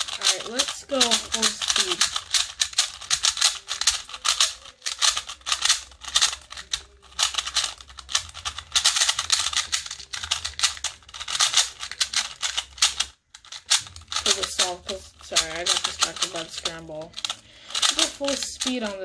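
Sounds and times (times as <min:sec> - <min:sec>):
puzzle cube plastic clicking: 0:00.0 - 0:19.0.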